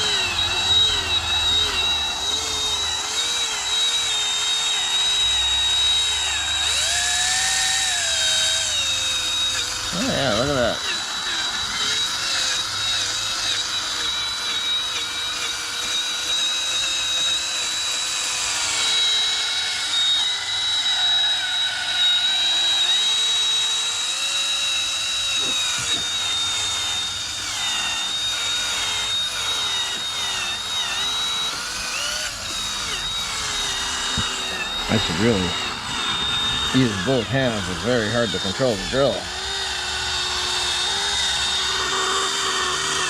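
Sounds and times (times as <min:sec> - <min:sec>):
drill motor whining: 0:00.0 - 0:43.0.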